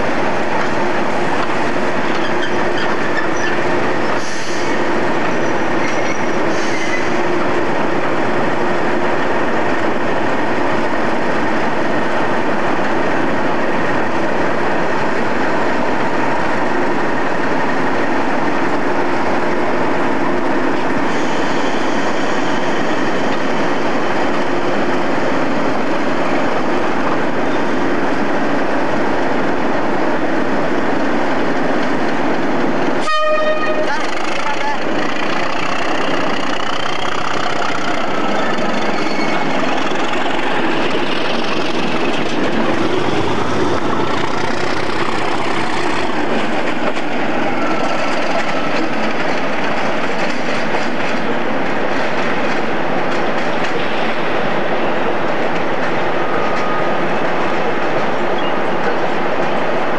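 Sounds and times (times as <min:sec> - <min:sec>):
diesel locomotive engines running: 0:00.0 - 0:59.9.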